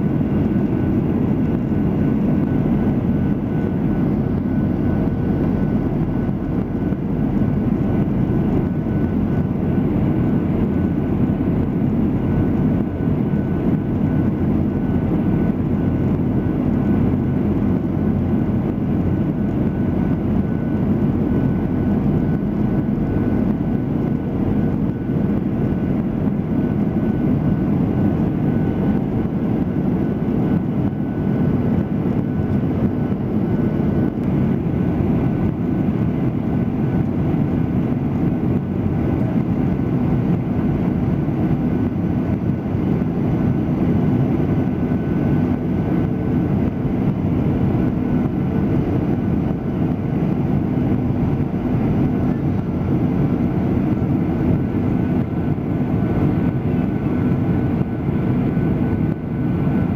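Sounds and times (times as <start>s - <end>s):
airliner cabin engine noise: 0.0s - 59.9s.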